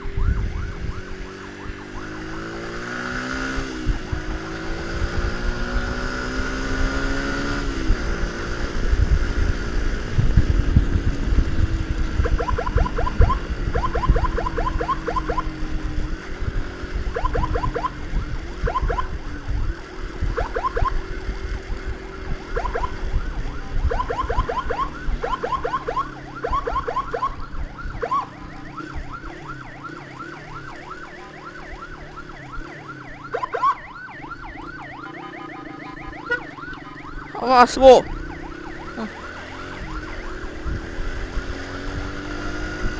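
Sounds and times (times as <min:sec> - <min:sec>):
electronic siren yelping: 0:00.0 - 0:05.2, 0:11.9 - 0:42.8
motorcycle engine: 0:00.0 - 0:42.9.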